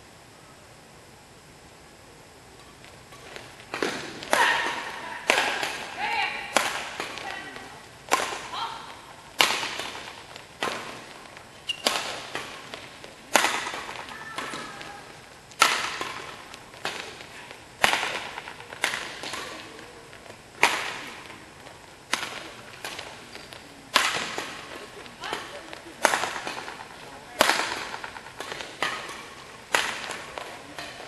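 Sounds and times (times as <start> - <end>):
rackets striking shuttlecock: 2.6 - 31.0.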